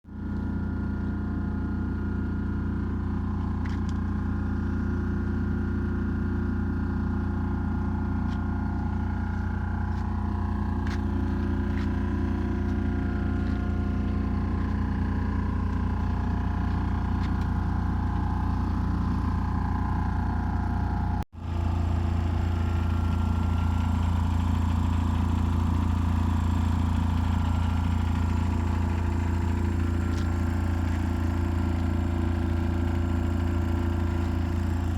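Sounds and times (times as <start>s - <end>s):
outboard engine running: 0.1s - 34.9s.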